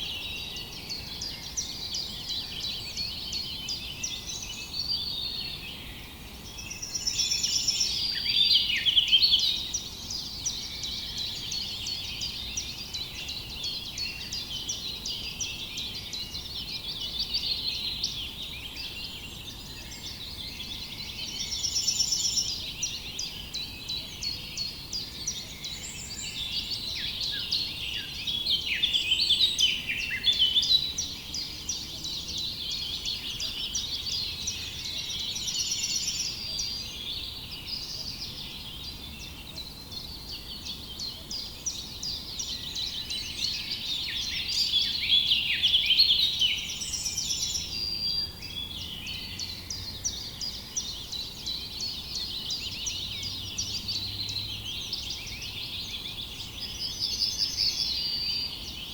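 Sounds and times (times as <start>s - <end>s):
birds chirping and trilling: 0.0s - 58.9s.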